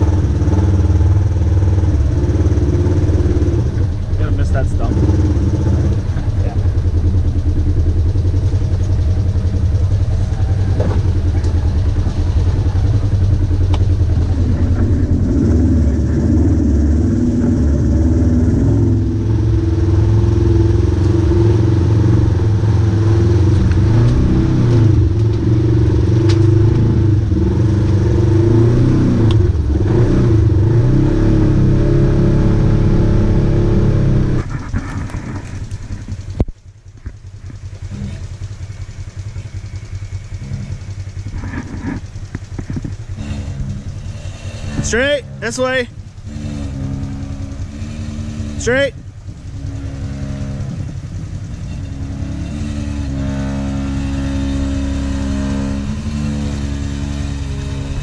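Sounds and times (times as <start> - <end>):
distant engine: 0.0 - 58.0
vehicle engine revving: 0.0 - 58.0.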